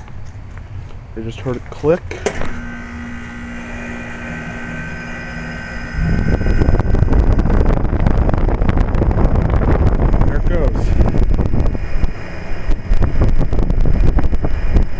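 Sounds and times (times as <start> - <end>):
heat pump fan rush: 0.0 - 14.9
heat pump hum: 0.0 - 14.9.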